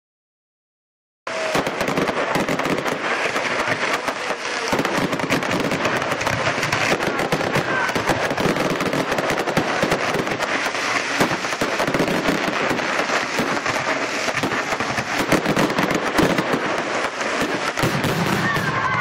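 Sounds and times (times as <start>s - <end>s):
fireworks crackling: 1.3s - 19.0s
loud firework cracks: 1.3s - 19.0s.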